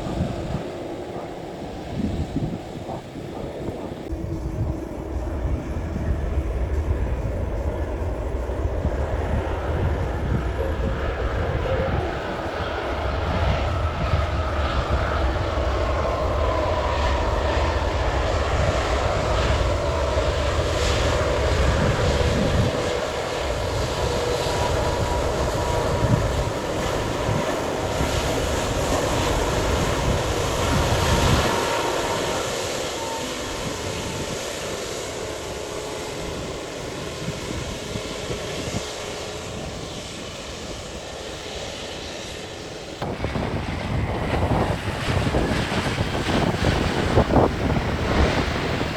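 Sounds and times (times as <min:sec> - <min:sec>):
airliner engines passing: 0:00.0 - 0:48.9.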